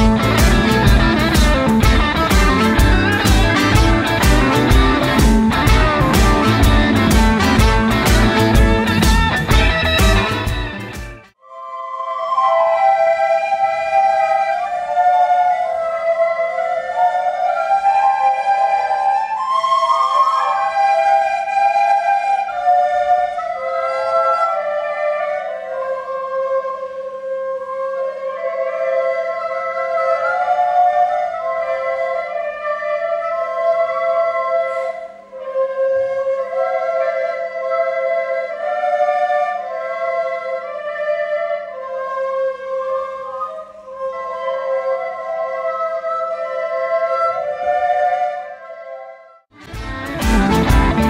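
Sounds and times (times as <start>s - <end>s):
children playing recorders: 0.0s - 10.8s, 11.4s - 51.0s.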